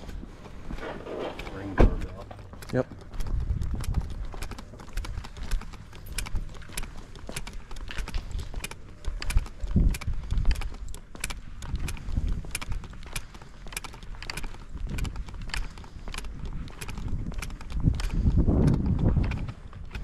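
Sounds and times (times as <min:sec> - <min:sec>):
footsteps on concrete: 0:00.0 - 0:20.0.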